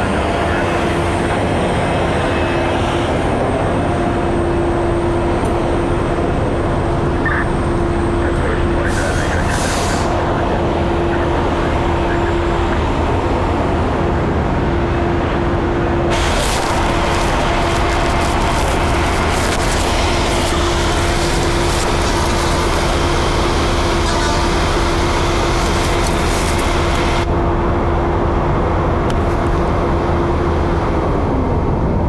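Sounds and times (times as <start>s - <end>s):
diesel engine rumbling drone: 0.0s - 32.0s.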